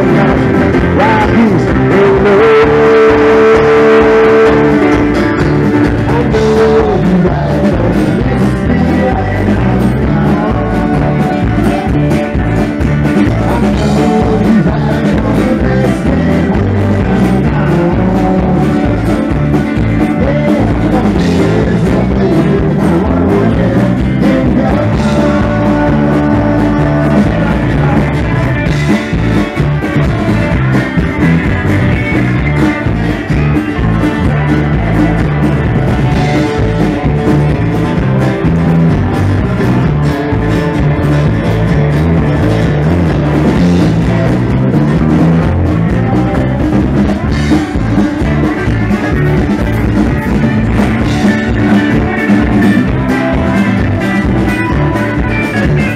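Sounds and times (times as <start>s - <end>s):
acoustic guitar: 0.0s - 55.9s
bass guitar: 0.0s - 55.9s
drum kit: 0.0s - 55.9s
electric guitar: 0.0s - 55.9s
rock band playing: 0.0s - 55.9s.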